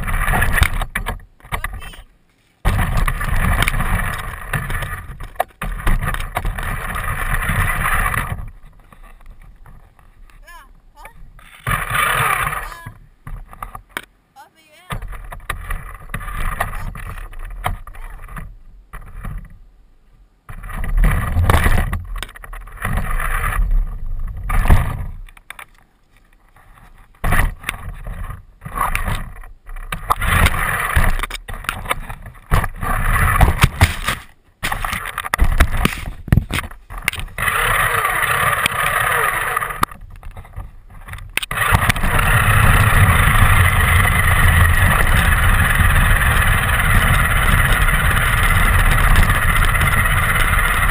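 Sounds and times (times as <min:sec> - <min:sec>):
rc car motor and tyres: 0:00.0 - 0:13.9, 0:20.5 - 0:50.9
knocks and scrapes: 0:00.0 - 0:14.1, 0:14.9 - 0:19.6, 0:20.4 - 0:50.9.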